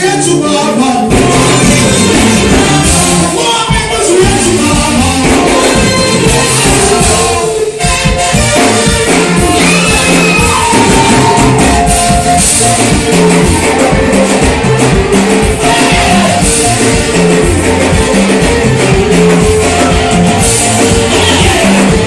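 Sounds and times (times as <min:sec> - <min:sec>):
person singing: 0:00.0 - 0:07.9, 0:09.0 - 0:22.0
band with drums and guitar: 0:00.0 - 0:22.0.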